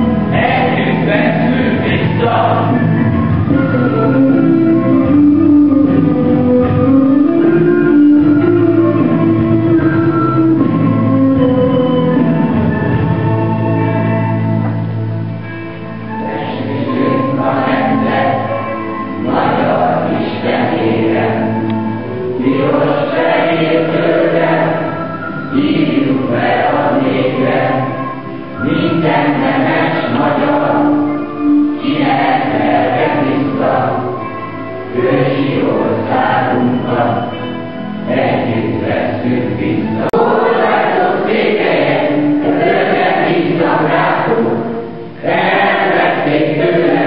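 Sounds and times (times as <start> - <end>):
children's choir singing: 0.0 - 14.8, 15.8 - 47.0.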